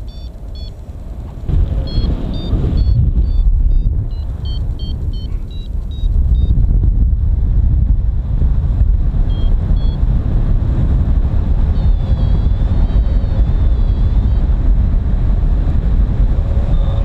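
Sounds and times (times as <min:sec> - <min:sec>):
variometer beeping: 0:00.0 - 0:07.1, 0:08.7 - 0:17.0
strong wind buffeting microphone: 0:00.0 - 0:17.0.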